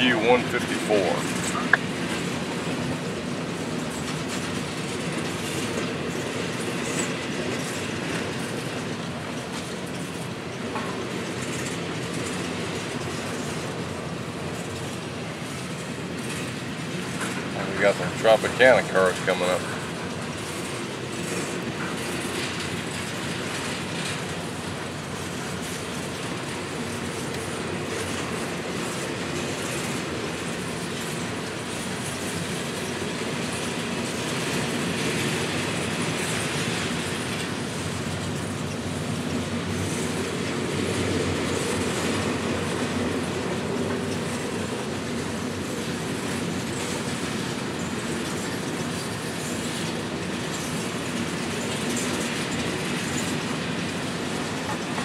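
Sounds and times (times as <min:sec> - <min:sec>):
freight train rolling past: 0:00.0 - 0:55.0
steel wheels over rail joints: 0:00.0 - 0:55.0.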